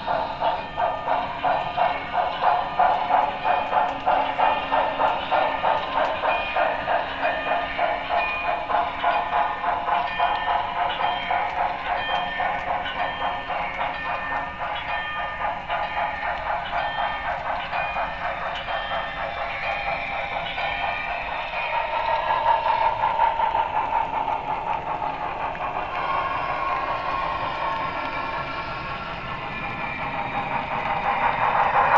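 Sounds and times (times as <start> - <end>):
model steam locomotive chuffs: 0.0 - 31.9.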